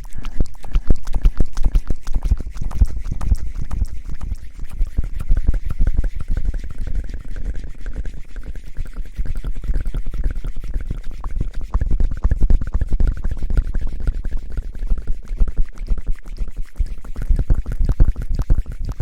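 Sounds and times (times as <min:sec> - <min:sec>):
rubbing on microphone: 0:00.0 - 0:19.0.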